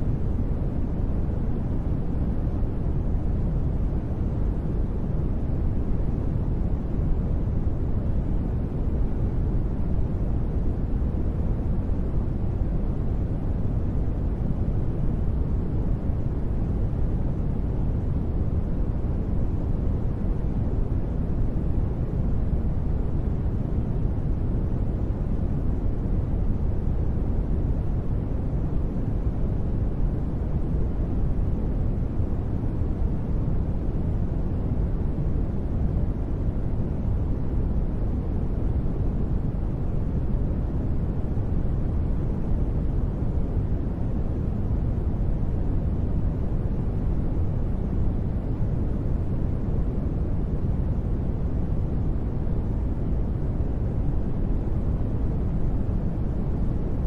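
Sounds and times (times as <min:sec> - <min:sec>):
dark muffled white noise: 0:00.0 - 0:57.0.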